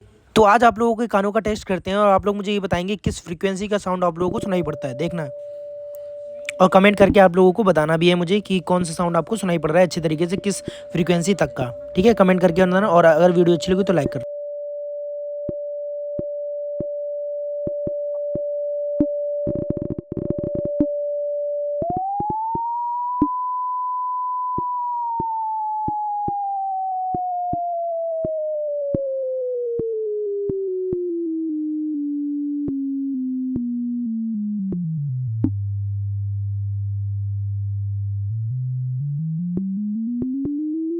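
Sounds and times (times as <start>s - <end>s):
sine-wave test tone: 3.9s - 40.9s.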